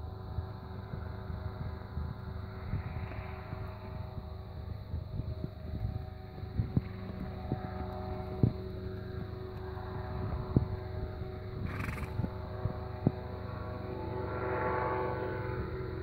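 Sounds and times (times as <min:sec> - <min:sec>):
mechanical drone: 0:00.0 - 0:16.0.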